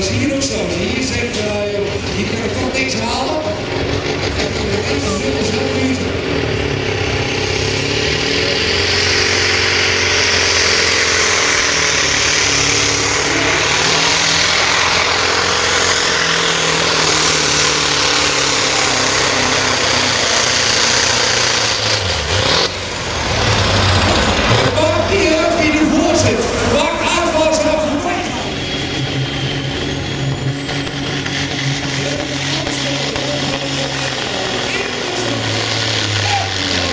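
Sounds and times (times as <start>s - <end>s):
truck diesel engine at full power: 0.0s - 36.9s.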